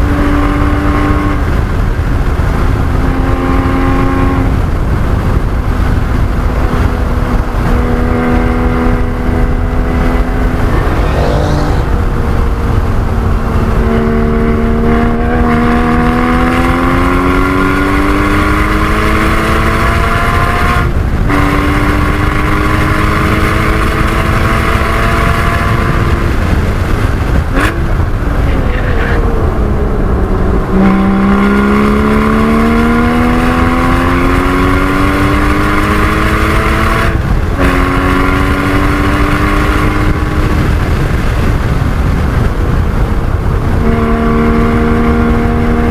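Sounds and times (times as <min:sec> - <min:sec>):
car engine accelerating hard: 0:00.0 - 0:45.9
road and wind noise rumble: 0:00.0 - 0:45.9.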